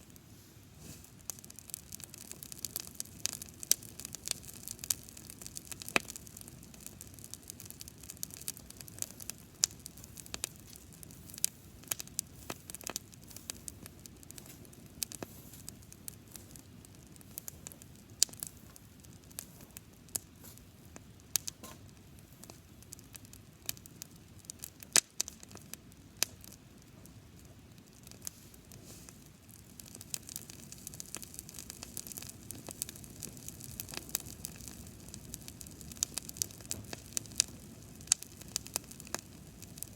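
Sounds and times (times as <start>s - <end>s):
dry grass fire crackling: 0.0s - 39.9s.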